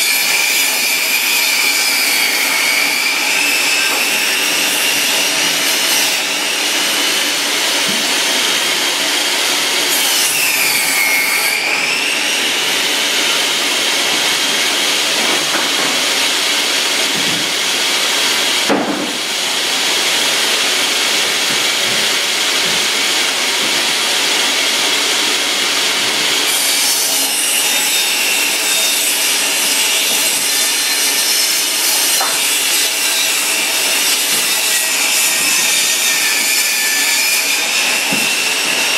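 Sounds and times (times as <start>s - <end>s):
table saw cutting wood: 0.0s - 38.9s.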